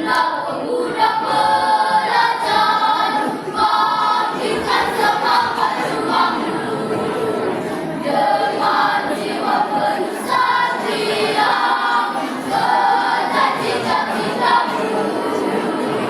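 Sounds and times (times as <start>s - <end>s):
children's choir singing: 0.0s - 16.0s.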